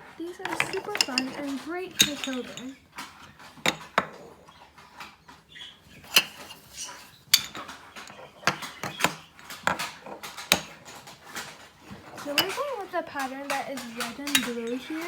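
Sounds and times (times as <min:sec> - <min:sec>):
plastic magnetic toy pieces clicking: 0:00.2 - 0:04.1, 0:06.0 - 0:15.0.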